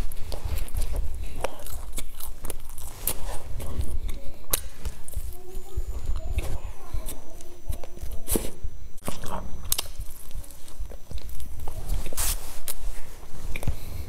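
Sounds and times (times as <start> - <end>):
chewing crispy pastry: 0.0 - 14.0.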